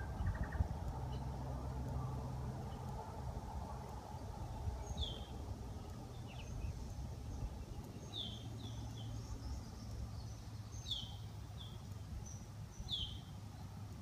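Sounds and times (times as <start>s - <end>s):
birds chirping: 0.0s - 13.8s
low background rumble: 0.0s - 14.0s.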